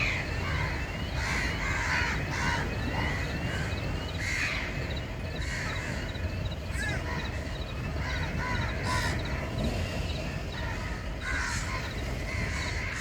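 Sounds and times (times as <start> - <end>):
birds harsh calls: 0.0 - 13.0.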